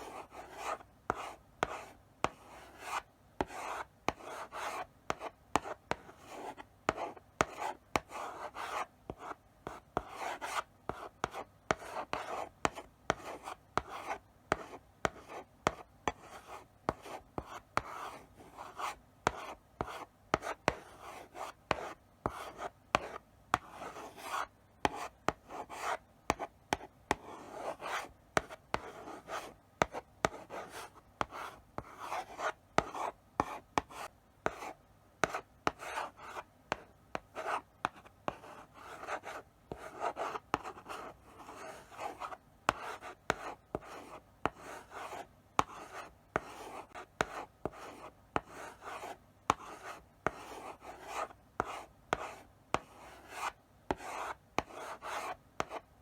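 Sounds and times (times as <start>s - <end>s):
chalk scratching on blackboard: 0.0s - 55.8s
chalk tapping board: 0.0s - 55.9s.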